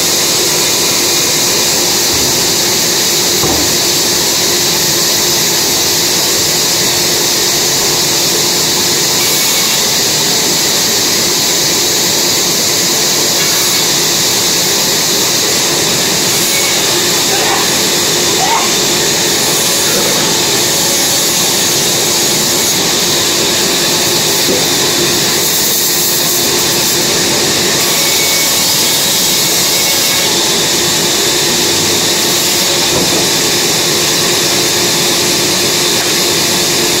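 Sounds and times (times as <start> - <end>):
band saw running: 0.0 - 37.0.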